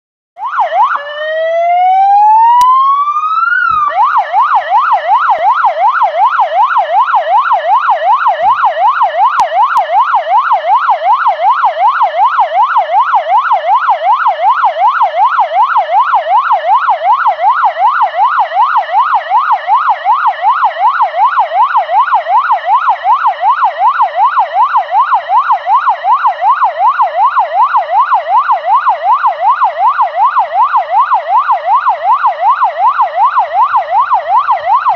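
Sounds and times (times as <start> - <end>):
police siren wailing and yelping: 0.4 - 34.9.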